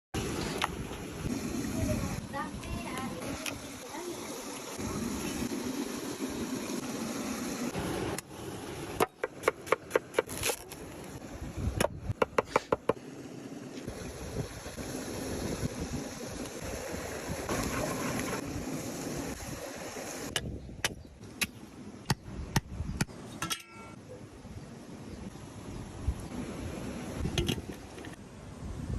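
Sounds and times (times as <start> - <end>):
wind: 0.2 - 28.9.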